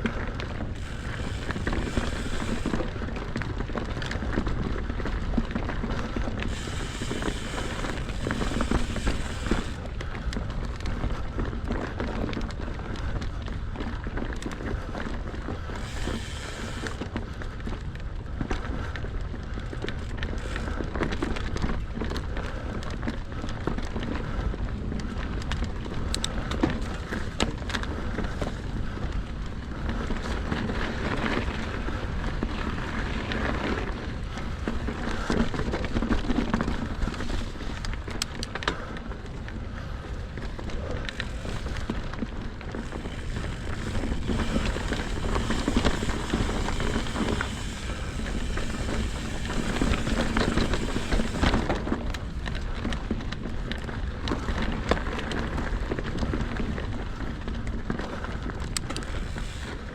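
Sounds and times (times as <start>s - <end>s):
bike rattling over bumps: 0.0s - 59.9s
bike tyres crunching on frozen dirt: 0.0s - 59.9s
wind rumble on microphone: 0.0s - 59.9s.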